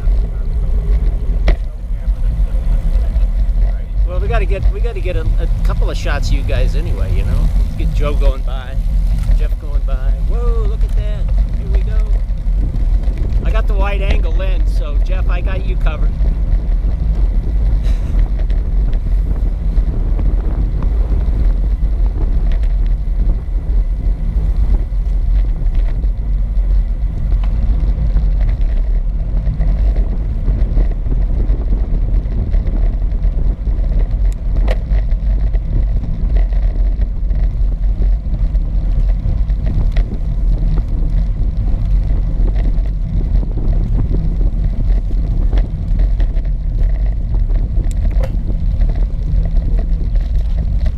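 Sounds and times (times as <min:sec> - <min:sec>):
wind rumble on microphone: 0:00.0 - 0:50.9.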